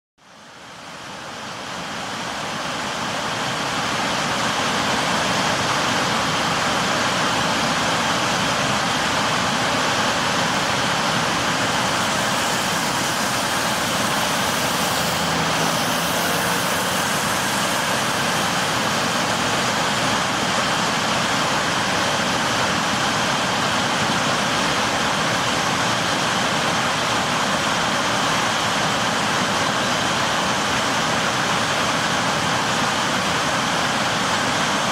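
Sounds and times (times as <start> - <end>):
floodwater roaring through spillway: 0.3 - 34.9.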